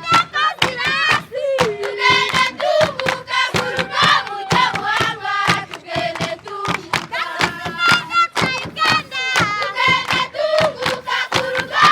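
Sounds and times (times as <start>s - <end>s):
fast hand clapping: 0.0s - 11.9s
group singing: 0.0s - 11.9s.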